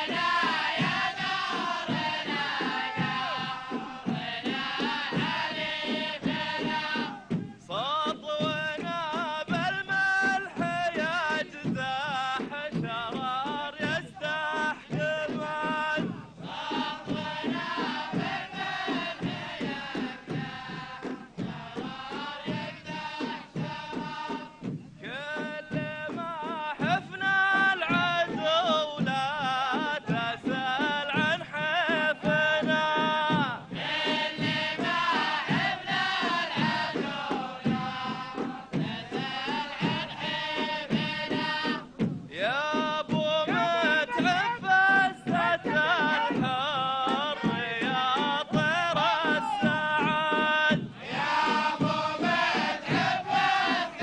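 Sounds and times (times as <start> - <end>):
large frame drums beating: 0.0 - 54.0
men chanting in unison: 0.0 - 54.0.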